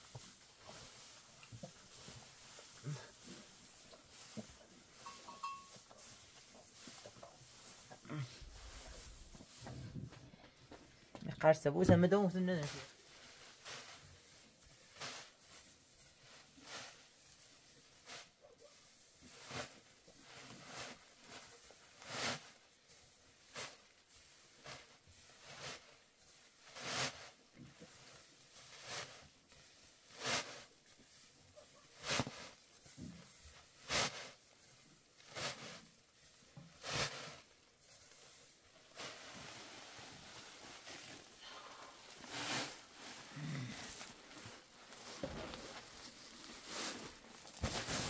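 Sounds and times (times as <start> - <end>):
straw and plastic sack rustling: 0.0 - 48.0.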